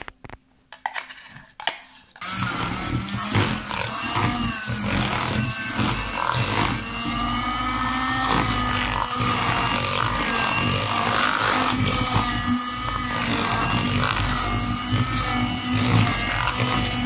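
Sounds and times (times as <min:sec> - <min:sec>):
electric hand mixer whipping: 0:02.2 - 0:17.0.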